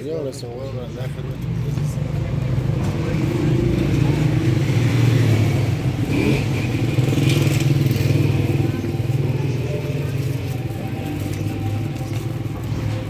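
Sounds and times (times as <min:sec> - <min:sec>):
vehicle engine running: 0:01.3 - 0:13.0.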